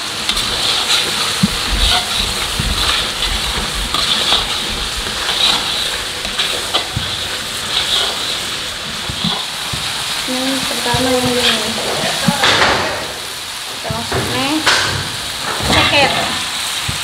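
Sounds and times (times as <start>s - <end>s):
metal spatula scraping a wok: 0.0s - 17.0s
spice paste sizzling in a wok: 0.0s - 17.0s.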